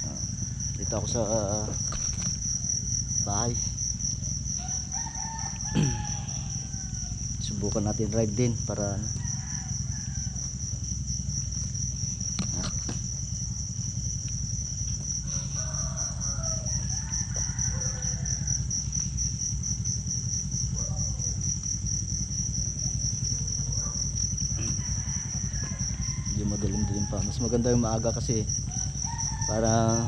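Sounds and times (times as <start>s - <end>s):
crickets trilling: 0.0s - 30.0s
steady low hum: 0.0s - 30.0s.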